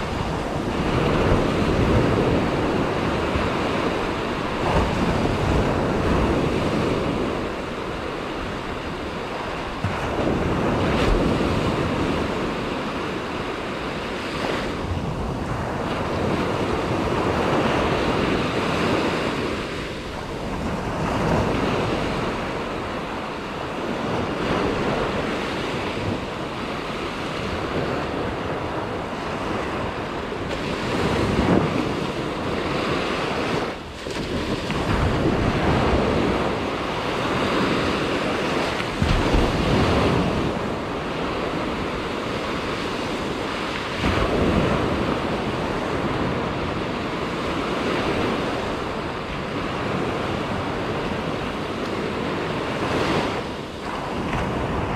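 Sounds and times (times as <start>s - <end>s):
waves washing up beach: 0.0s - 54.9s
wind rumbling on microphone: 0.0s - 54.9s.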